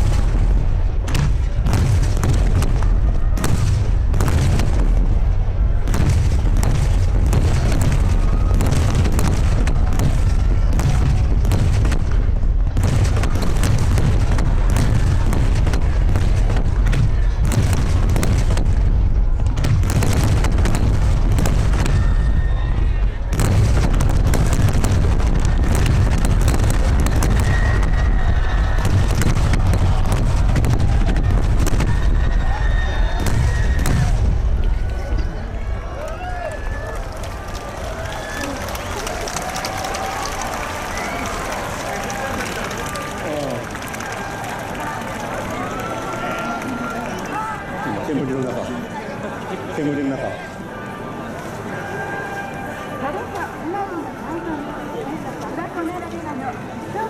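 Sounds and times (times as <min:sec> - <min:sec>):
fireworks cracking: 0:00.0 - 0:35.2, 0:36.0 - 0:47.5
booming rumble of fireworks: 0:00.0 - 0:46.1.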